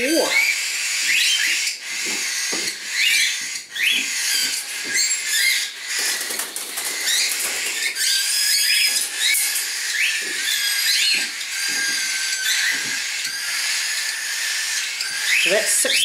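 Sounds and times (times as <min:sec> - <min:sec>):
cockatiels squawking and chirping: 0:00.0 - 0:16.0.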